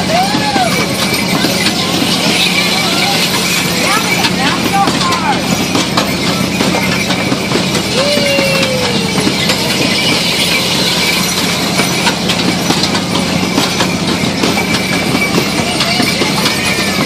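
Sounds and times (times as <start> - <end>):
wooden carts rattling: 0.0 - 17.0.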